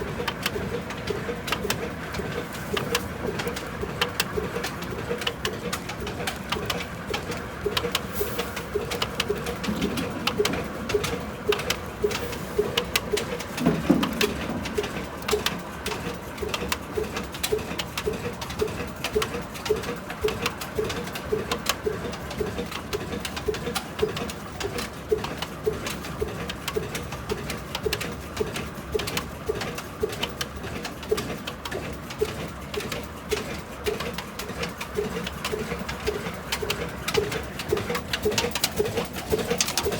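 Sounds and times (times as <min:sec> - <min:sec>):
stationary engine exhaust beating: 0:00.0 - 0:39.9.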